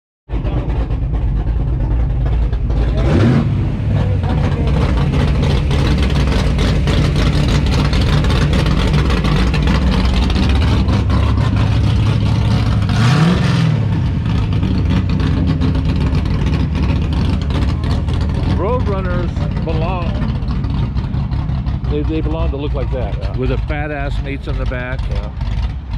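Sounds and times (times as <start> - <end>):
car engine idling and revving: 0.3 - 25.9.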